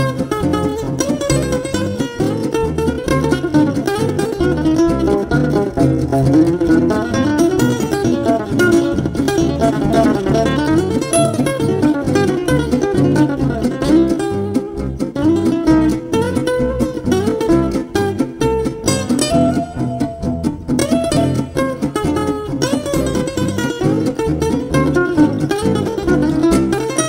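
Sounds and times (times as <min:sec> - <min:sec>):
acoustic guitar plucked notes: 0:00.0 - 0:27.0.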